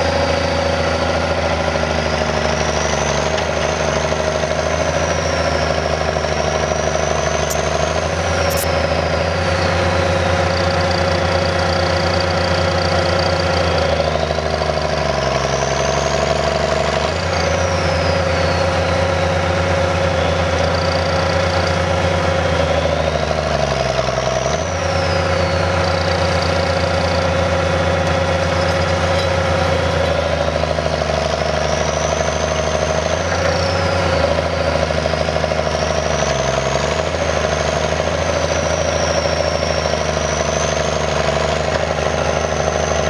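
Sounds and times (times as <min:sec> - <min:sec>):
tractor engine under load: 0:00.0 - 0:43.0.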